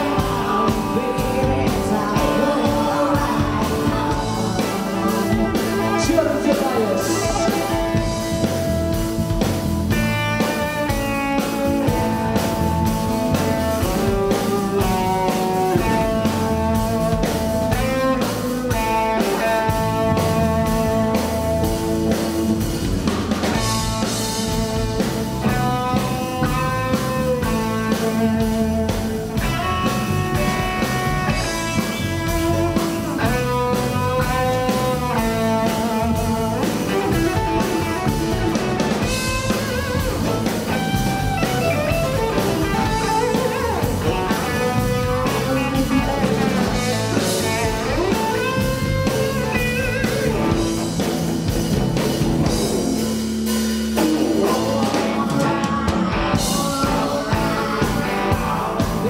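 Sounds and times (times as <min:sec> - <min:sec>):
drum kit steady beat: 0:00.0 - 0:59.0
live country band playing: 0:00.0 - 0:59.0.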